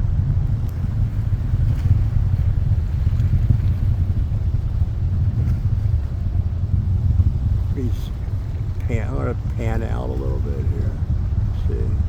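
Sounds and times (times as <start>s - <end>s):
distant rocket engine rumble: 0.0s - 12.0s.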